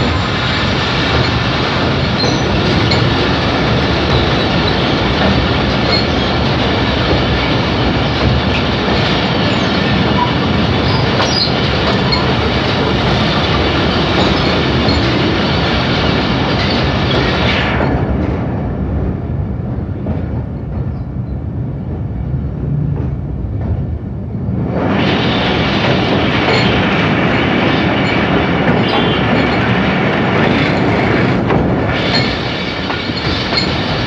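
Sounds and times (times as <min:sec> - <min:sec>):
train rumbling over steel bridge: 0:00.0 - 0:34.0.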